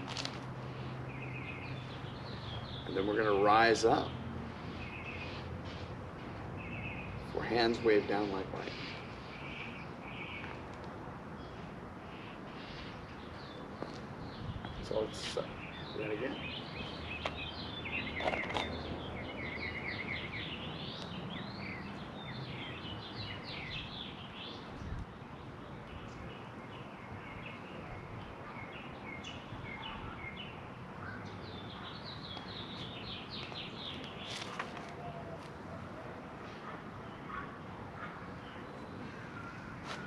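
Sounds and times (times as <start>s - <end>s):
outdoor background noise: 0.0s - 40.0s
small birds chirping: 0.0s - 40.0s.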